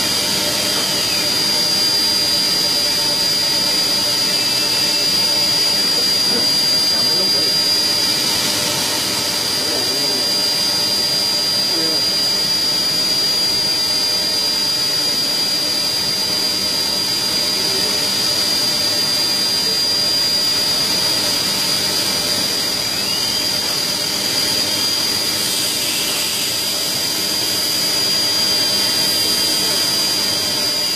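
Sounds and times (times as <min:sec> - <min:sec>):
high-pitched machine whine: 0:00.0 - 0:30.9.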